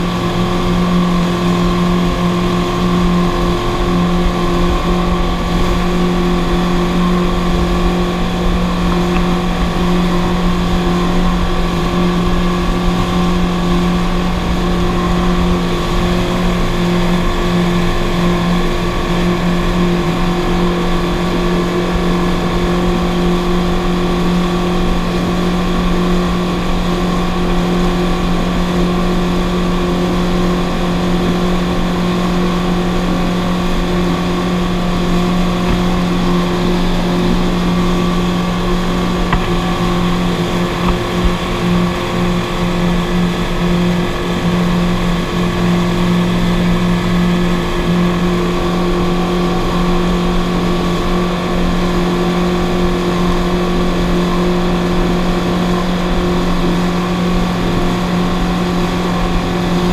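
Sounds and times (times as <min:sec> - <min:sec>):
motorboat engine droning: 0:00.0 - 0:59.9
rush of churning wake: 0:00.0 - 0:59.9.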